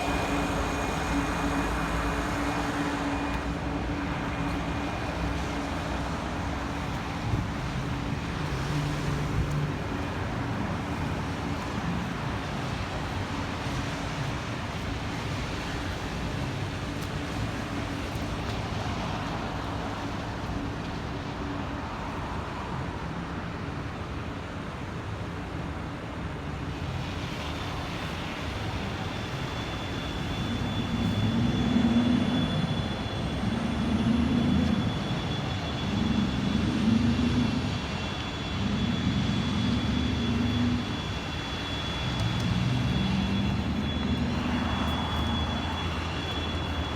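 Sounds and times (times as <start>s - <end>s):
thin high whine: 0.0s - 19.3s, 27.2s - 46.9s
distant traffic rumble: 0.0s - 46.9s.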